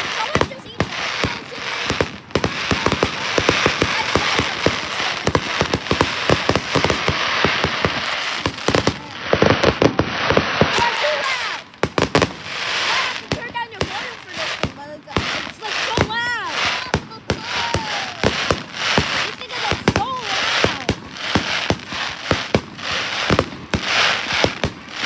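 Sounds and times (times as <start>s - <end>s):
fireworks bangs and pops: 0.0s - 25.0s
fireworks crackling: 0.0s - 25.0s.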